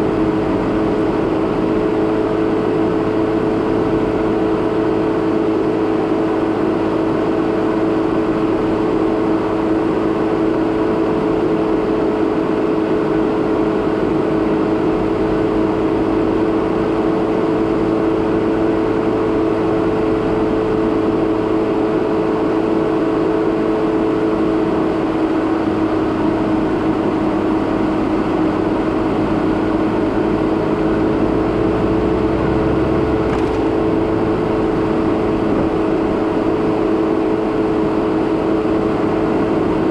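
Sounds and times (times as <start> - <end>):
car engine humming: 0.0 - 11.8, 12.4 - 39.9.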